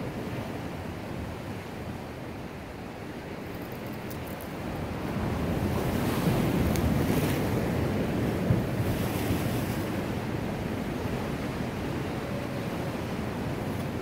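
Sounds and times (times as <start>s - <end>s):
surf washing on rocks: 0.0s - 14.0s.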